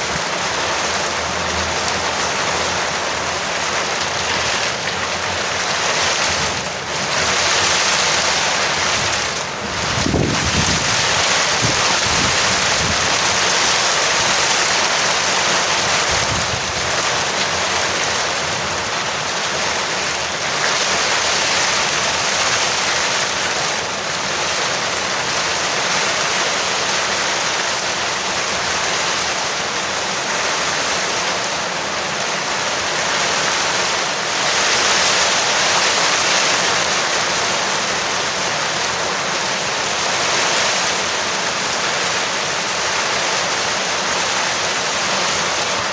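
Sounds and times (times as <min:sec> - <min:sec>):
heavy rain on a roof: 0:00.0 - 0:45.9.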